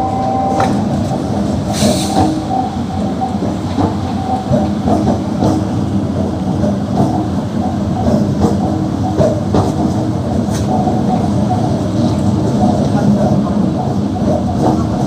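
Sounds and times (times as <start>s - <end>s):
train rumble inside coach: 0.0s - 15.0s.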